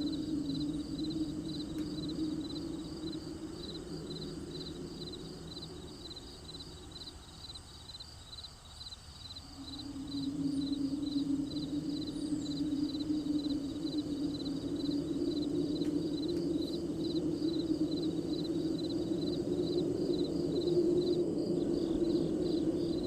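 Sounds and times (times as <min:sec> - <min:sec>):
low drone: 0:00.0 - 0:07.6, 0:09.4 - 0:23.0
crickets chirping: 0:00.0 - 0:23.0.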